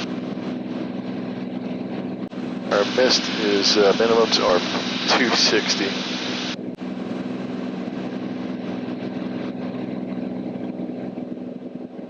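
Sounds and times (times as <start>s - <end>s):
airplane engine and propeller droning: 0.0s - 12.0s.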